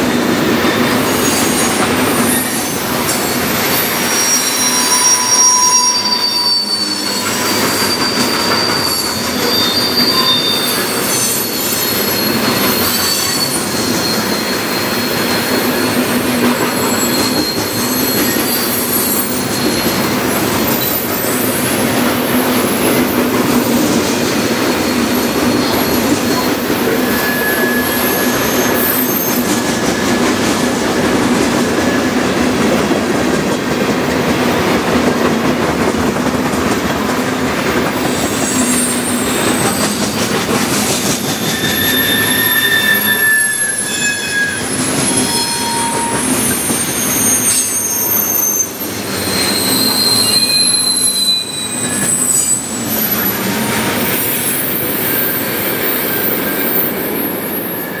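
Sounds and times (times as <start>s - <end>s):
freight train wheels rumbling on rail: 0.0s - 58.0s
wheel flanges squealing: 0.6s - 32.2s, 37.8s - 58.0s.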